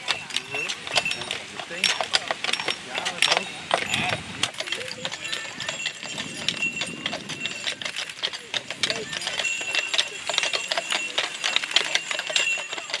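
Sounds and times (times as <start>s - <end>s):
harness chains clinking: 0.0s - 13.0s
horse hooves clip-clopping on pavement: 0.0s - 13.0s
people chattering: 0.0s - 13.0s.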